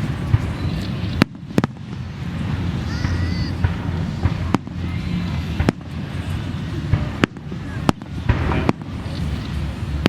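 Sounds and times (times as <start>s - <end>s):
low rumble of booms: 0.0s - 10.0s.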